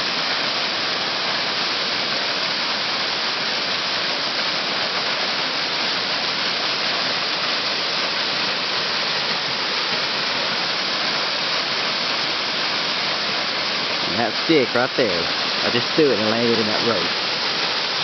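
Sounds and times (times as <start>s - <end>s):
creek rapids: 0.0s - 18.0s
waterfall rushing: 0.0s - 18.0s.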